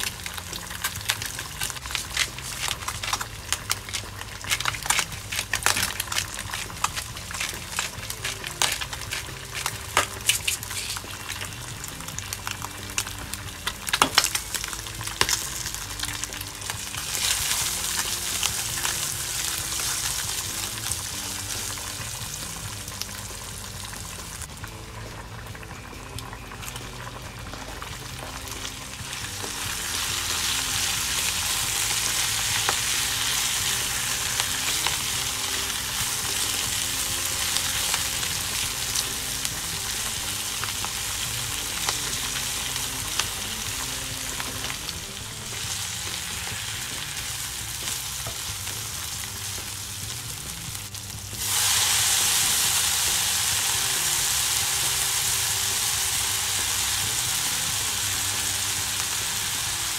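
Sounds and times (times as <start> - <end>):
bacon sizzling in oil: 0.0 - 59.9.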